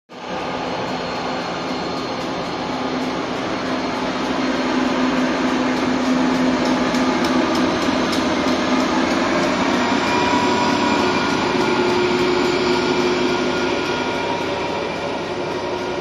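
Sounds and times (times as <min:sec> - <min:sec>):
train wheels on rail: 0:00.1 - 0:16.0.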